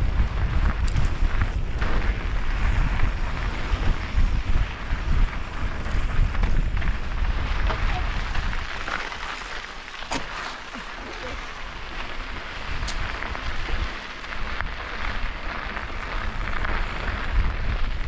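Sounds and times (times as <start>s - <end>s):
tyres crunching on gravel: 0.0s - 18.0s
wind buffeting microphone: 0.0s - 18.0s.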